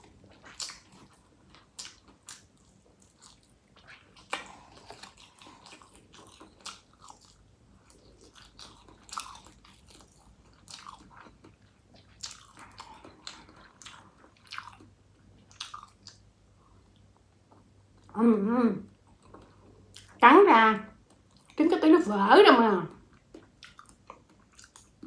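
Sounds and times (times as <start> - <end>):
person chewing: 0.0 - 18.1, 18.9 - 20.2, 23.1 - 25.0.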